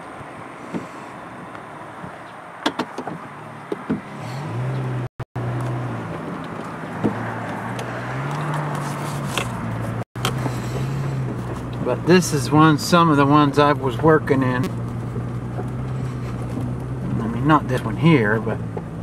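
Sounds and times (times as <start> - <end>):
car driving on road: 0.0 - 19.0.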